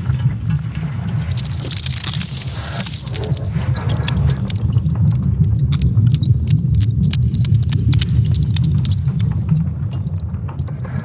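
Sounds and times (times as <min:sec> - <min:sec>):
low rumble: 0:00.0 - 0:11.0
irregular crackles and clicks: 0:00.6 - 0:11.0.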